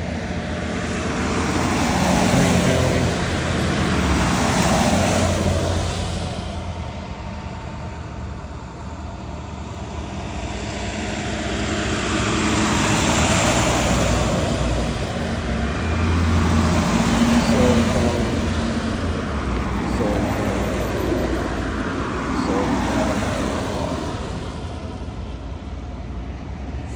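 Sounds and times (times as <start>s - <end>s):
bus engine drone: 0.0s - 26.9s.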